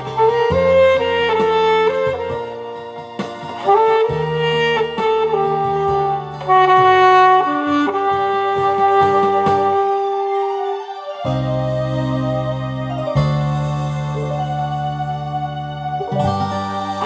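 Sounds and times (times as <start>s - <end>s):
alto saxophone melody: 0.0s - 17.0s
backing track with bass and drums: 0.0s - 17.0s.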